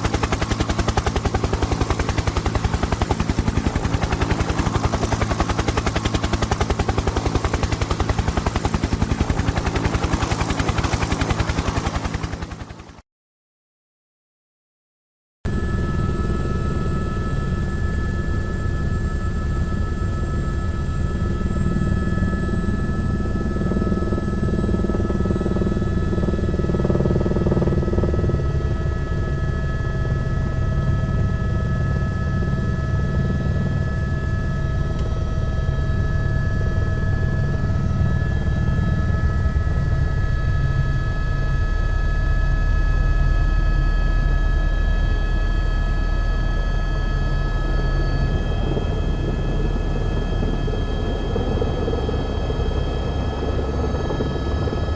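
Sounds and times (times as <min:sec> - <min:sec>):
high turbine whine: 0:00.0 - 0:12.9, 0:15.5 - 0:54.9
helicopter rotor blades chopping: 0:00.0 - 0:13.0, 0:16.1 - 0:54.9.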